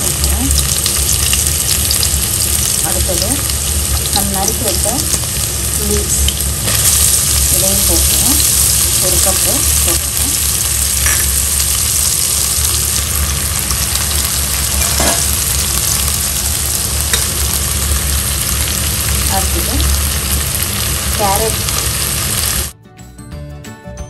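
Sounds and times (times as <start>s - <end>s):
leeks sizzling in oil: 0.0s - 22.7s.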